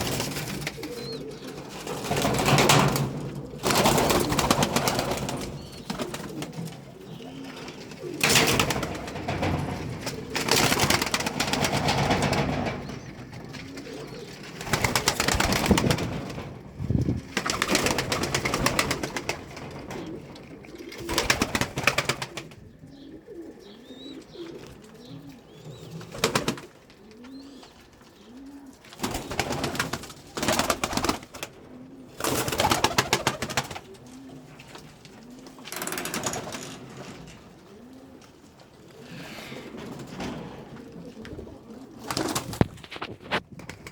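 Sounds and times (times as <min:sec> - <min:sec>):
pigeons cooing: 0:00.0 - 0:43.9.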